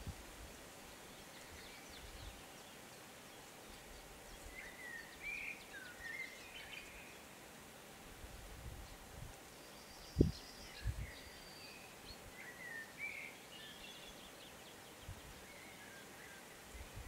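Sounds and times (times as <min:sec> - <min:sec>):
small birds singing faintly: 0:00.0 - 0:17.0.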